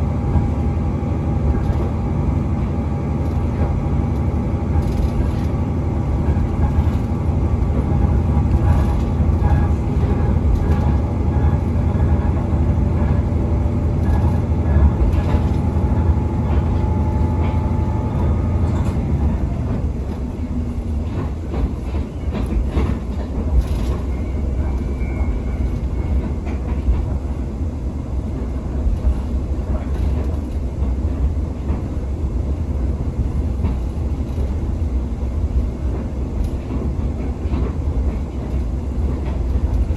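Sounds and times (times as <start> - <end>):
train clacks: 0.0 - 39.9
train rumbling: 0.0 - 39.9.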